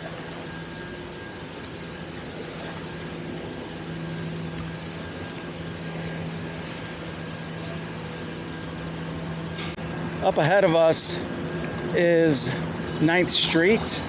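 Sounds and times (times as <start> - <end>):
constant mechanical hum: 0.0 - 14.0.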